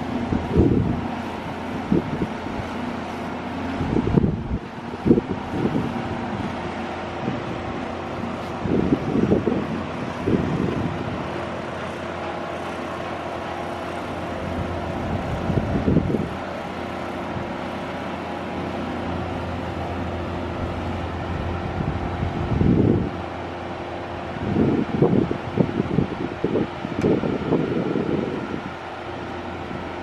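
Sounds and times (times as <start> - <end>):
boat motor humming: 0.0 - 30.0
wind buffeting microphone: 0.0 - 30.0.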